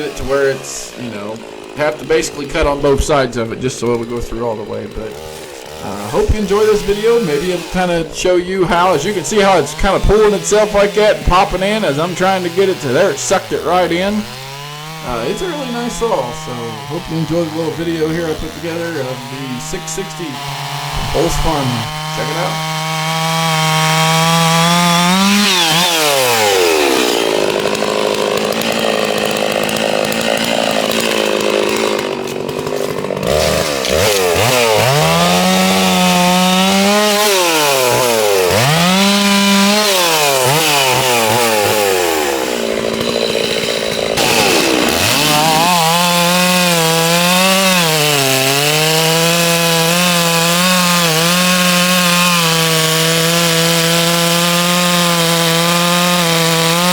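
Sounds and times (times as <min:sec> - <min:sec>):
chainsaw cutting tree trunk: 0:00.0 - 0:56.9.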